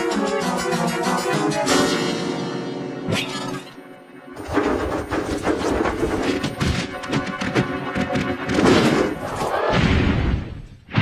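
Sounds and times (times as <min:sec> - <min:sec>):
cartoon soundtrack music: 0:00.0 - 0:11.0.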